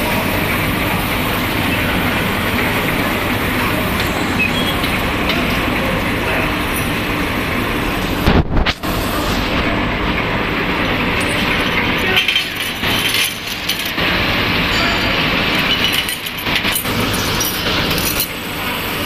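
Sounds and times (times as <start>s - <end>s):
machine running: 0.0s - 19.0s.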